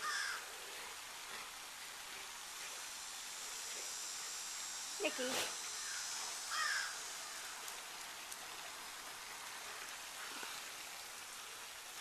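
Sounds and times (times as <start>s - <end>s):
steady soft hiss: 0.0s - 12.0s.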